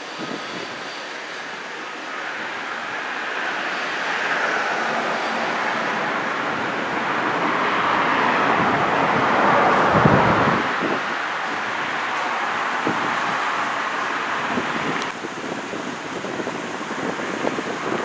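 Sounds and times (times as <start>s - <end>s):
passenger train rushing: 0.0s - 18.0s.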